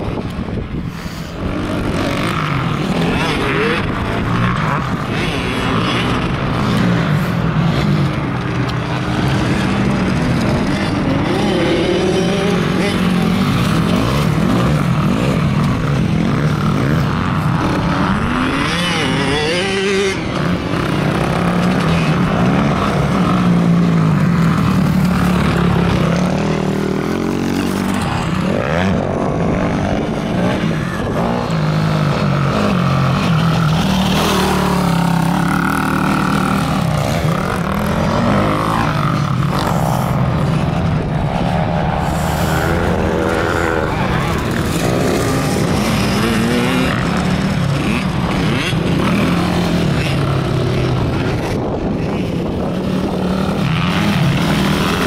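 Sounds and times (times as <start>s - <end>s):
atv engine revving: 0.7s - 55.0s.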